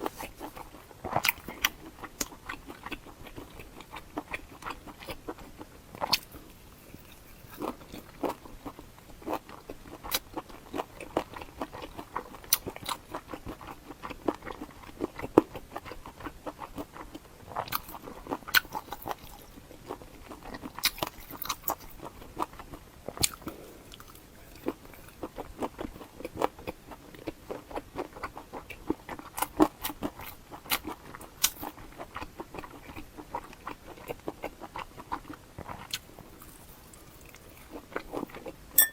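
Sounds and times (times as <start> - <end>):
person chewing and biting food: 0.0 - 38.6.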